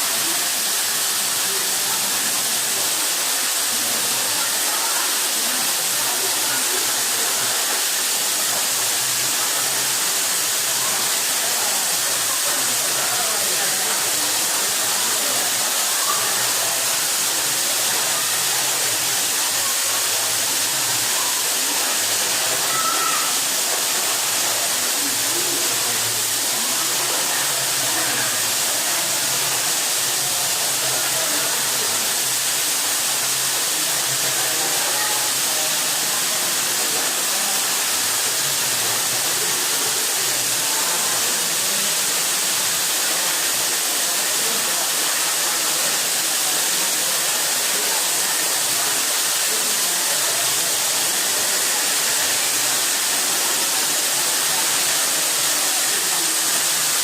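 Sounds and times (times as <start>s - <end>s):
waterfall rushing hiss: 0.0s - 57.0s.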